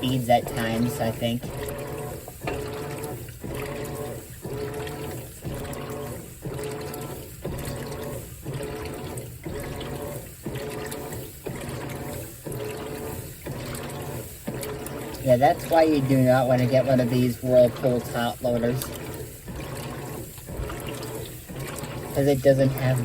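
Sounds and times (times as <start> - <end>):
washing machine agitating: 0.0 - 23.0
water sloshing: 0.0 - 23.0.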